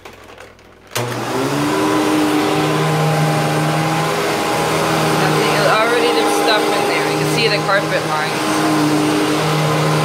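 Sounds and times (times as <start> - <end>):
vacuum cleaner motor running: 0.9 - 10.0.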